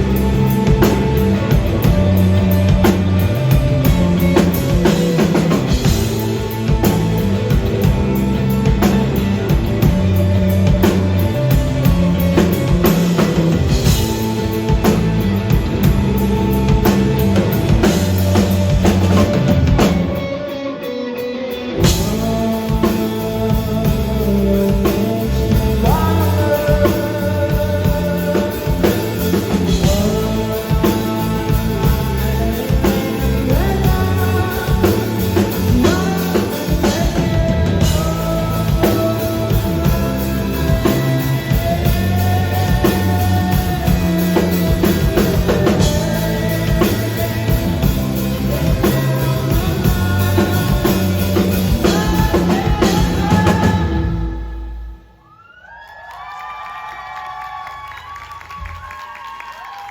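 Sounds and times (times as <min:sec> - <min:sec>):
drum kit: 0:00.0 - 0:55.1
electric guitar: 0:00.0 - 0:55.1
person singing: 0:00.0 - 0:55.3.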